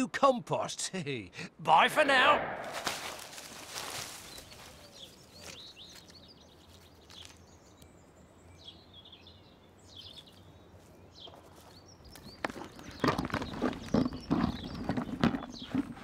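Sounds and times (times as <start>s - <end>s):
small birds chirping: 3.2s - 16.0s.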